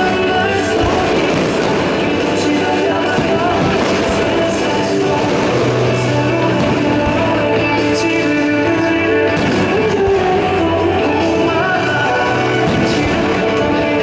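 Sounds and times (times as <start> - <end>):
loud guitar music over loudspeakers: 0.0 - 14.0.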